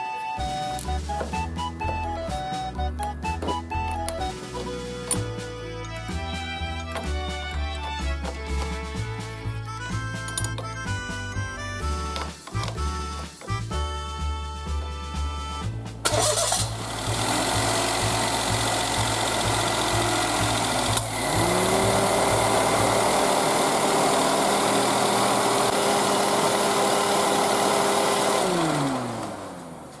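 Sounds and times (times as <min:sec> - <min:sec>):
small engine running: 0:00.4 - 0:30.0.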